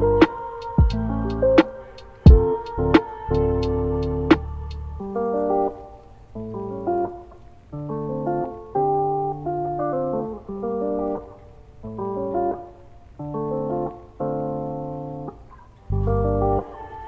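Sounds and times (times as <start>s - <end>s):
plucked guitar-like chords: 0.0s - 17.0s.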